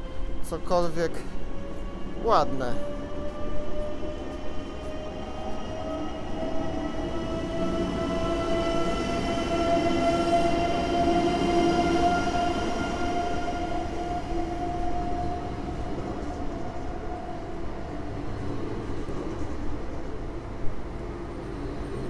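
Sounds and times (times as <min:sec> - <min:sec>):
electric train whine: 0:00.0 - 0:22.0.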